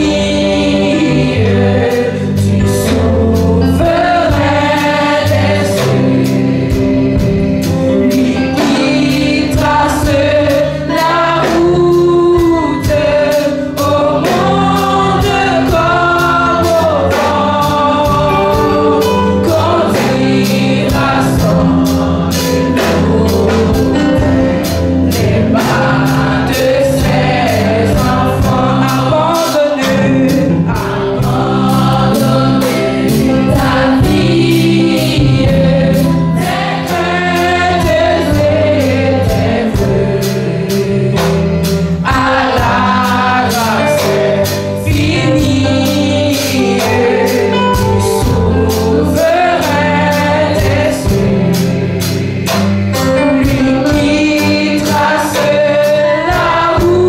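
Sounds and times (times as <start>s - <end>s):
electric keyboard: 0.0s - 57.0s
steady percussion beat: 0.0s - 57.0s
women singing a hymn: 0.0s - 57.0s.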